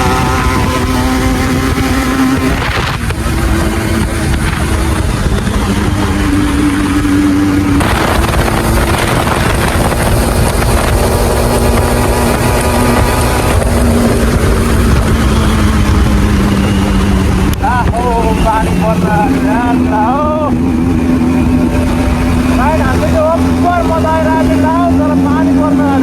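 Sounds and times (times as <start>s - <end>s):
wind buffeting microphone: 0.0s - 23.6s
motorcycle engine running: 0.0s - 26.0s.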